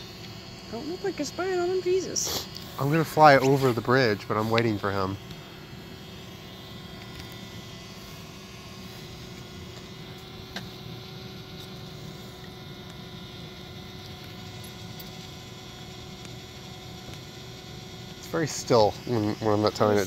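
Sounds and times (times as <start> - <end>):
drone propeller hum: 0.0 - 20.0.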